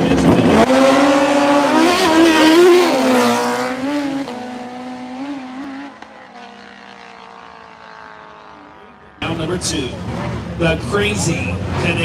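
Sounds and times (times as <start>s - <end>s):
motorcycle engines at high revs: 0.0s - 12.0s.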